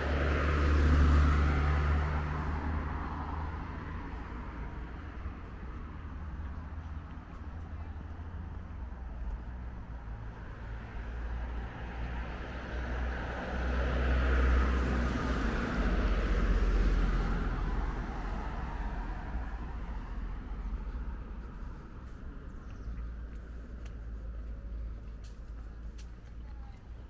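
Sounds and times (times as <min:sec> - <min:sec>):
car passing: 0:00.0 - 0:26.1
low rumble of traffic: 0:00.0 - 0:27.0.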